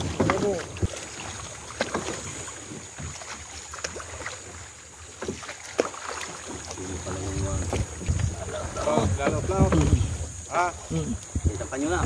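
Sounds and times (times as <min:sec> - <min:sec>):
water splashing around boat: 0:00.0 - 0:12.0.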